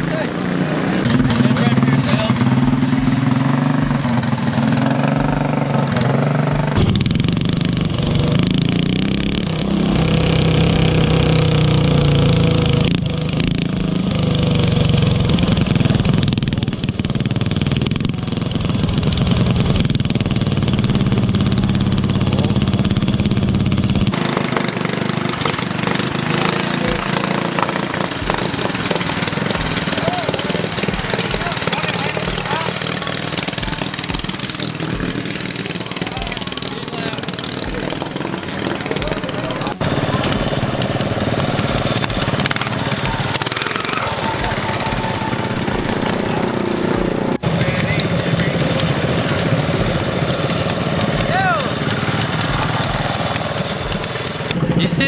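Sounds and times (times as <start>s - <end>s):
mini bike engine running: 0.0s - 55.0s.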